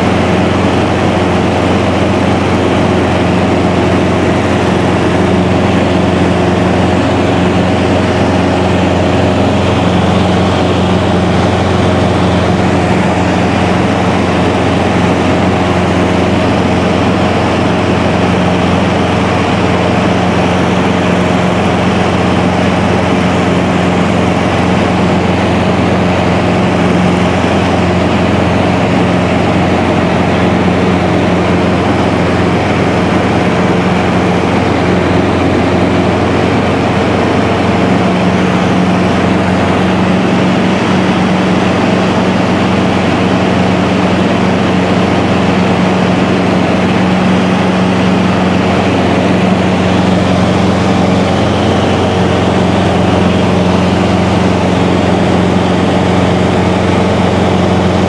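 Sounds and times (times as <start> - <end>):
light aircraft engine and propeller: 0.0 - 58.0.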